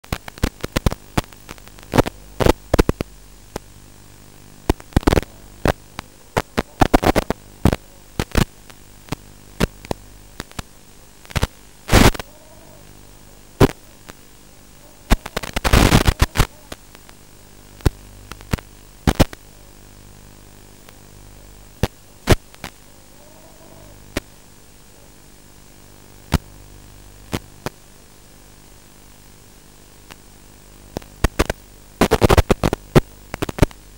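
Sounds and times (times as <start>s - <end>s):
low electrical hum: 0.0s - 33.9s
radio static crackles: 0.0s - 33.9s.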